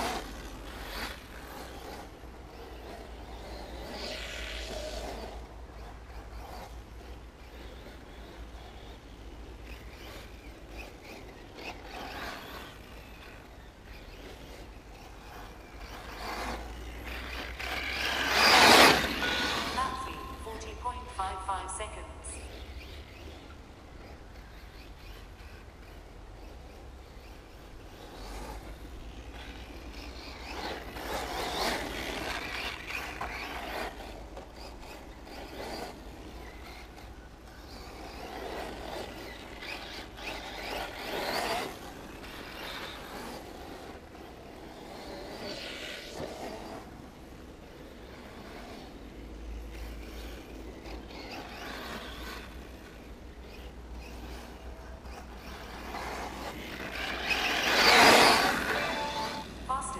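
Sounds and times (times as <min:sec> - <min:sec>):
radio-controlled car motor passing: 0:00.0 - 0:59.7.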